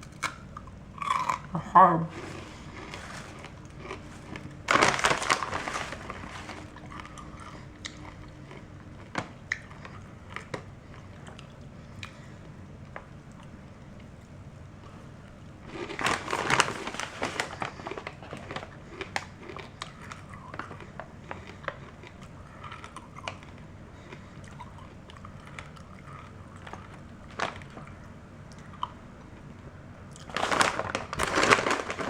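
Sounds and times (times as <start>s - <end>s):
chewing and crunching: 0.0s - 15.0s, 15.6s - 29.5s.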